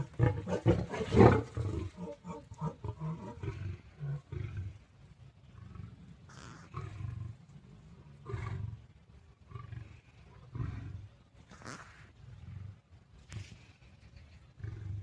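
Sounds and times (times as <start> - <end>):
big cats growling and snarling: 0.0 - 15.0.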